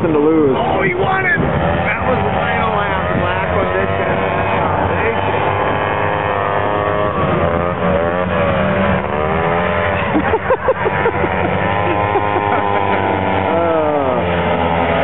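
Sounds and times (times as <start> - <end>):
snowmobile engines racing: 0.0 - 15.0.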